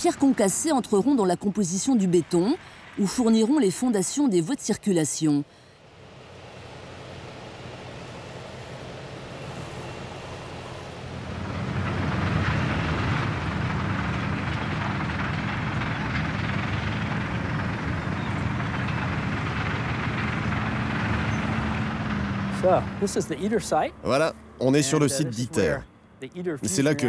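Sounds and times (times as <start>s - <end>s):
vehicle engine running: 0.0s - 5.2s, 5.8s - 27.0s.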